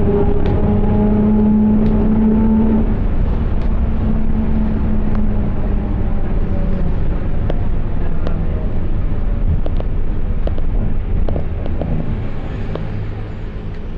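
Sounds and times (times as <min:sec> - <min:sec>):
bus differential growling: 0:00.0 - 0:13.9.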